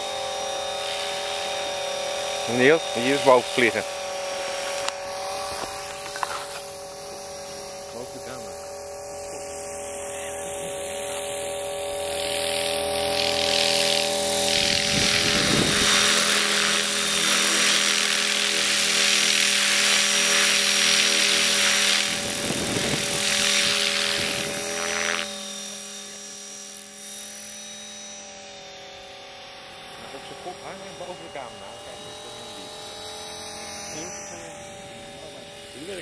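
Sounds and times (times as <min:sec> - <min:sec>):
model helicopter flying: 0:00.0 - 0:36.0.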